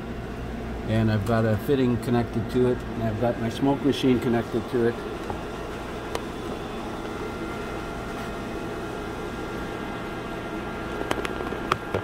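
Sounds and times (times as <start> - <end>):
hiss and hum of air flow: 0.0 - 12.0.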